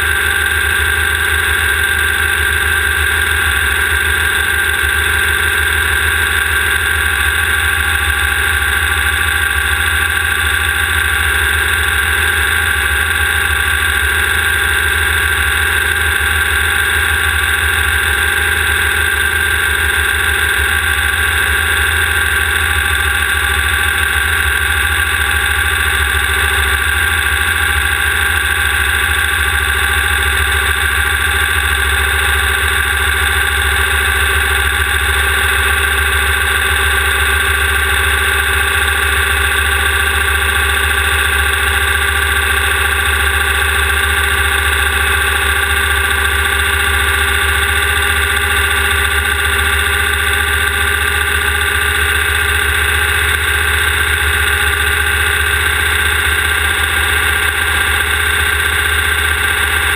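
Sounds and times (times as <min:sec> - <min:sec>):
race car engine running loud: 0:00.0 - 0:59.9.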